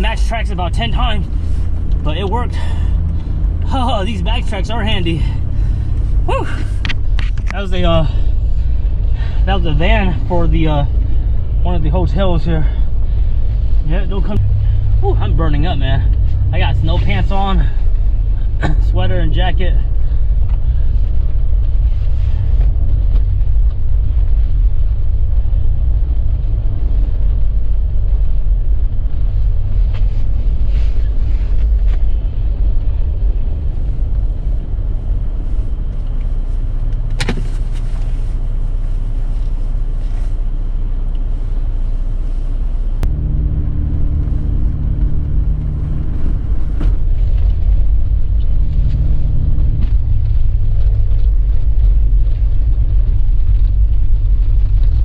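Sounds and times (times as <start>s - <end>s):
pitched hum: 0.0s - 55.0s
vehicle driving rumble: 0.0s - 55.0s.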